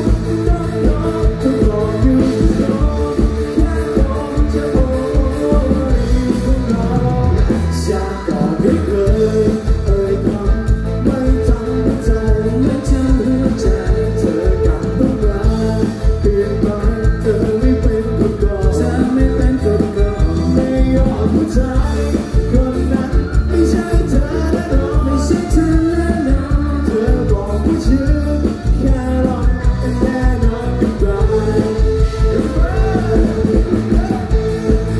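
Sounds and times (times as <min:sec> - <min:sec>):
live amplified music with beat: 0:00.0 - 0:34.9
man singing into microphone: 0:00.0 - 0:34.9.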